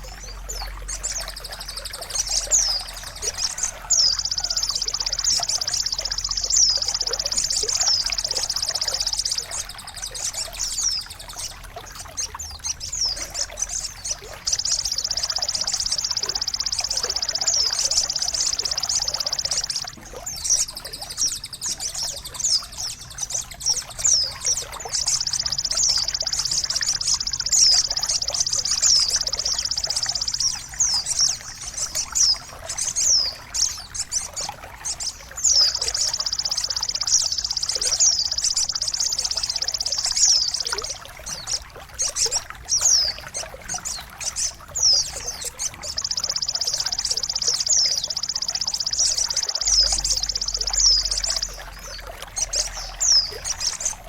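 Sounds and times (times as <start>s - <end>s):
songbird trilling and chirping: 0.0s - 54.0s.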